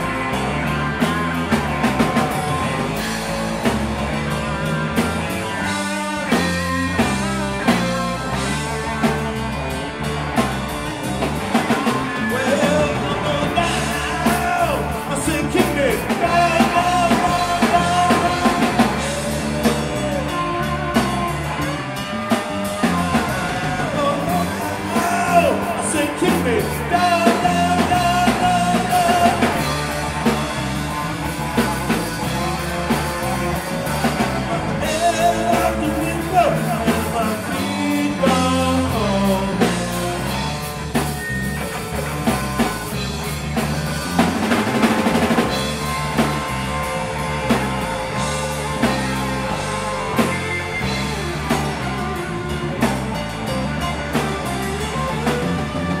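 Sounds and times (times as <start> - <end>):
electric guitar lead bent notes: 0.0 - 56.0
live rock band playing: 0.0 - 56.0.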